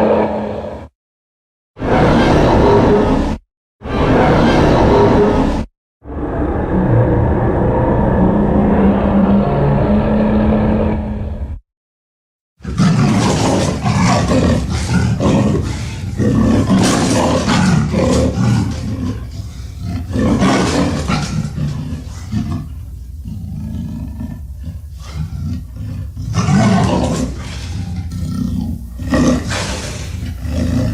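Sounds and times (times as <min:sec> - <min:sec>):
dinosaur roar: 0:00.0 - 0:00.9, 0:01.8 - 0:11.4, 0:12.6 - 0:30.9.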